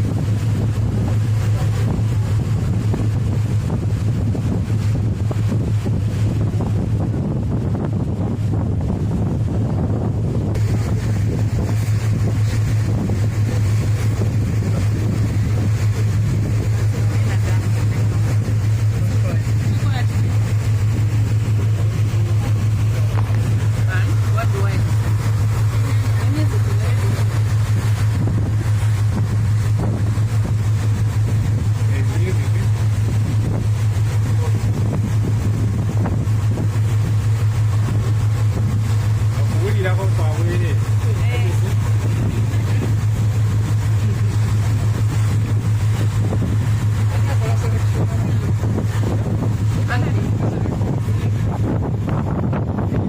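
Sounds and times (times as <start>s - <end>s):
boat engine humming: 0.0s - 53.0s
wind noise on microphone: 0.0s - 53.0s.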